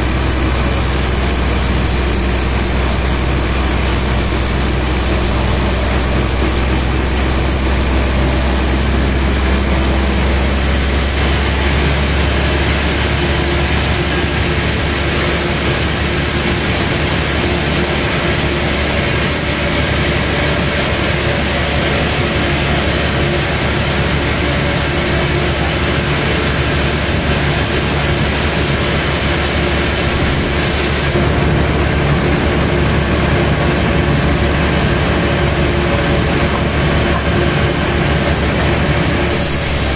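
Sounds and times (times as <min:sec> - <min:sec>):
sawmill machinery sawing timber: 0:00.0 - 0:39.9.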